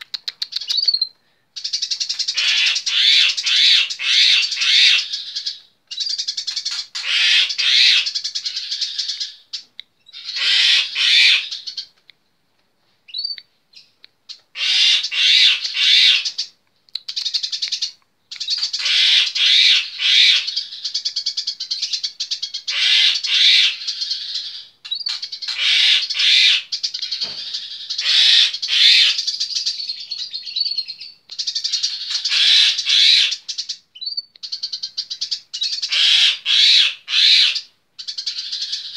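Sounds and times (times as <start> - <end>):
sparrow chattering song: 0.0 - 11.9, 13.1 - 38.9.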